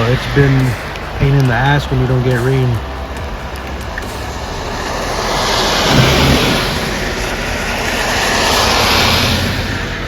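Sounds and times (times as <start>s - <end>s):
car tyres hissing on wet road: 0.0s - 10.0s
vehicle approaching: 0.0s - 10.0s.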